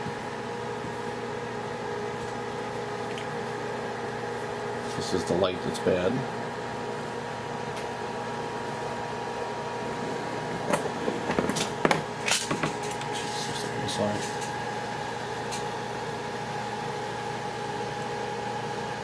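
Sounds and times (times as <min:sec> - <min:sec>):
steady hum with faint whine: 0:00.0 - 0:19.0.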